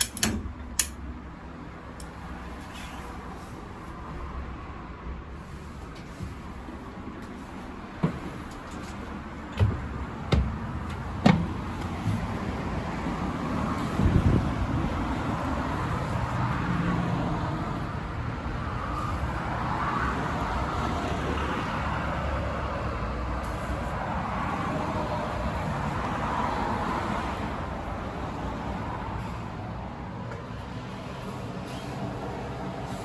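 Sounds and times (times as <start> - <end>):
passing motor vehicles rumble: 0.0 - 33.0.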